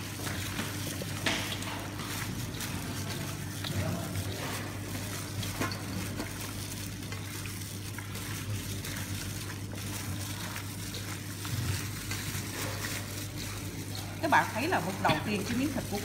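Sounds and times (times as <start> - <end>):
plastic gloves rustling: 0.0 - 16.0
wet squishing of meat: 0.0 - 16.0.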